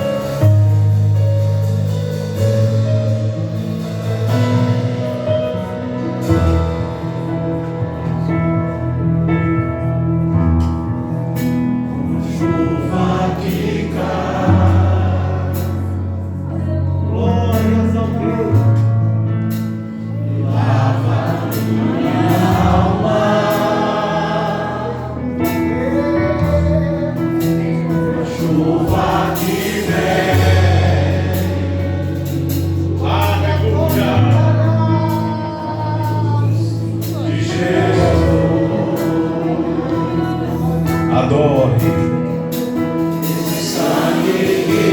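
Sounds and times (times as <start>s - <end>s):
men's choir singing gospel: 0.0s - 10.3s, 11.1s - 44.9s
instrumental accompaniment: 0.0s - 44.9s.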